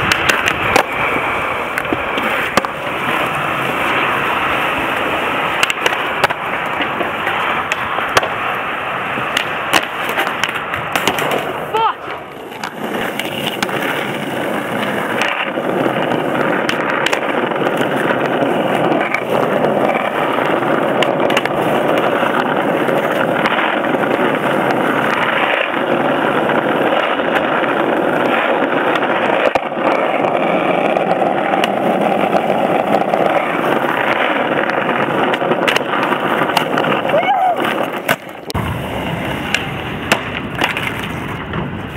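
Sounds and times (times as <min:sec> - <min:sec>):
skateboard wheels rolling on asphalt: 0:00.0 - 0:41.9.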